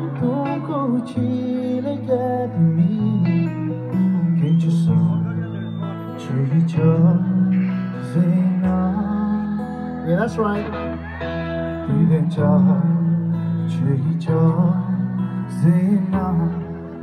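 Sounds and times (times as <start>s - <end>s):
live band guitars and bass: 0.0s - 17.0s
man singing: 0.0s - 17.0s.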